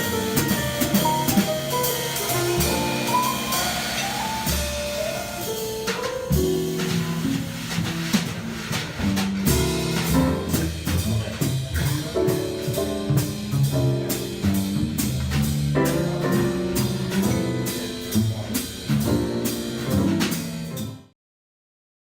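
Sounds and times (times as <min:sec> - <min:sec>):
upright bass: 0:00.0 - 0:05.7, 0:06.3 - 0:21.0
drum kit cymbals: 0:00.0 - 0:21.0
piano chords and lines: 0:00.0 - 0:21.2.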